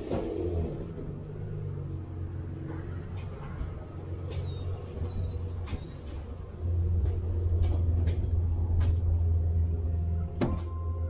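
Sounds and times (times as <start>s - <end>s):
trailer road rumble: 0.0s - 11.0s.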